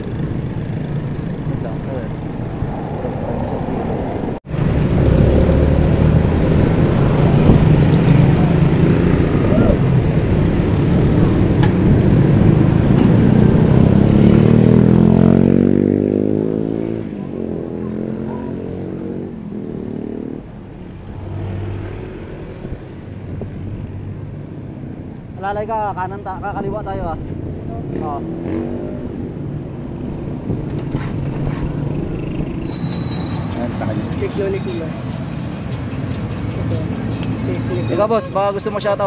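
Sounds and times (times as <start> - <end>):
cars and motorcycles passing: 0.0 - 39.0.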